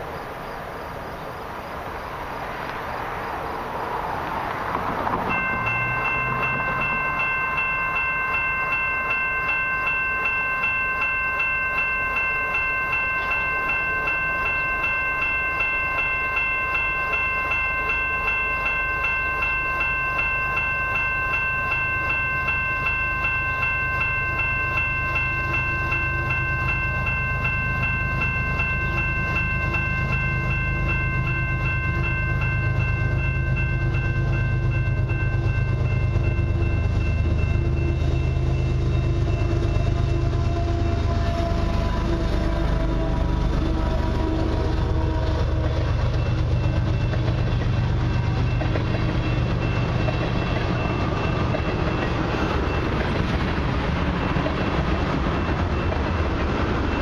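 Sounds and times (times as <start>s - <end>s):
diesel locomotive rumble: 0.0s - 57.0s
level crossing warning bell: 5.1s - 57.0s.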